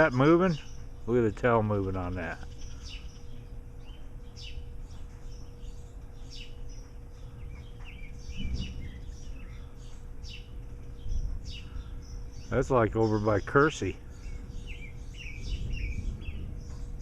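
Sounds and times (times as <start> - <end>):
birds chirping: 0.0 - 17.0
wind rumble on microphone: 2.4 - 17.0.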